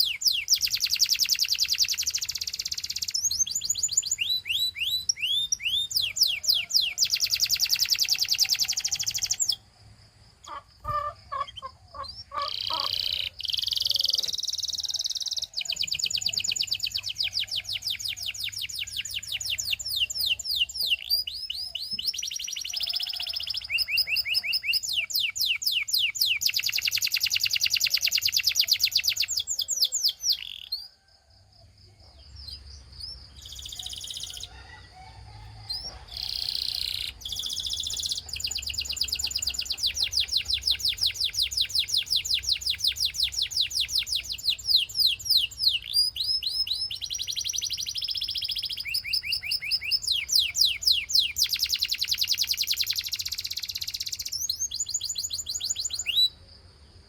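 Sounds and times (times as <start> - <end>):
canary trilling: 0.0 - 9.6, 10.4 - 30.8, 33.3 - 34.8, 35.7 - 56.2.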